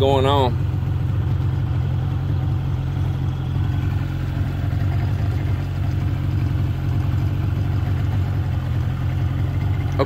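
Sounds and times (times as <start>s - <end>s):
outboard engine droning: 0.0s - 10.0s.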